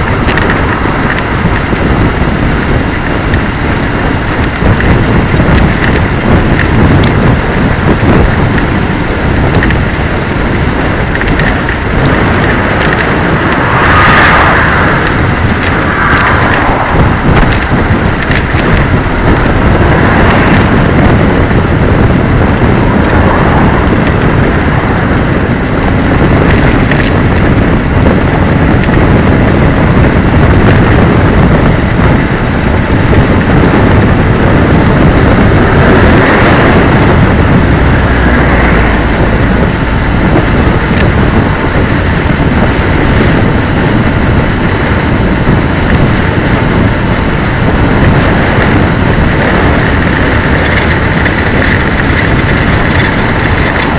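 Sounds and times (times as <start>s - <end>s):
road and vehicle noise: 0.0s - 53.9s
wind rushing over microphone: 0.0s - 53.9s.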